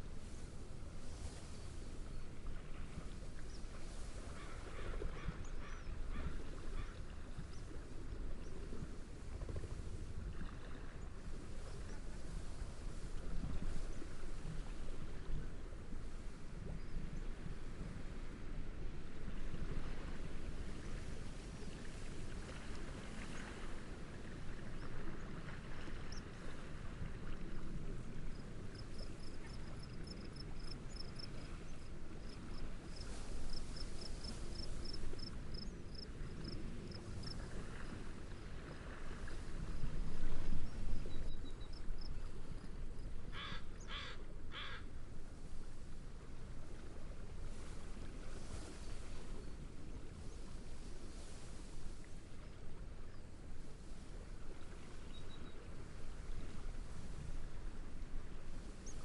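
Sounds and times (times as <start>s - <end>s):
waves washing: 0.0s - 5.4s, 6.0s - 16.6s, 17.3s - 43.4s, 44.3s - 59.0s
steady wind: 0.0s - 59.0s.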